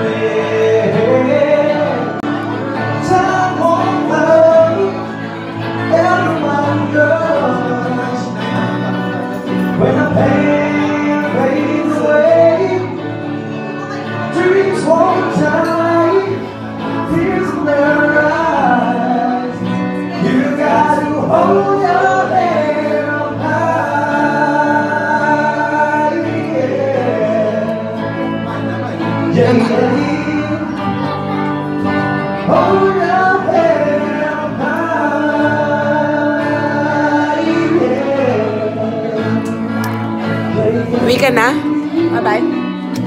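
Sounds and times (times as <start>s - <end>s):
acoustic guitar: 0.0s - 43.0s
men singing into microphones: 0.0s - 43.0s.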